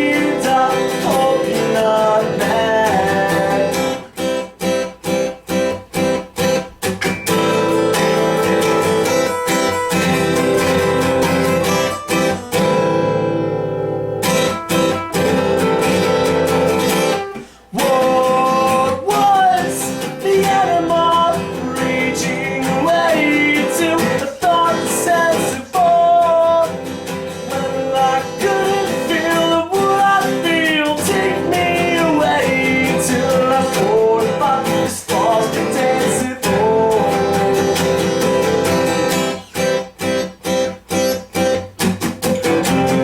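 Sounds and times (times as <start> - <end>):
acoustic guitar music: 0.0 - 43.0.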